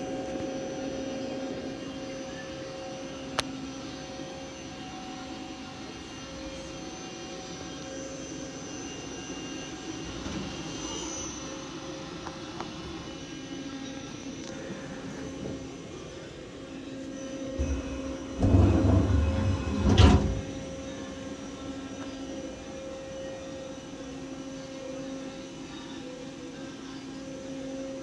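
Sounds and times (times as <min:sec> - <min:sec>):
lathe humming: 0:00.0 - 0:28.0.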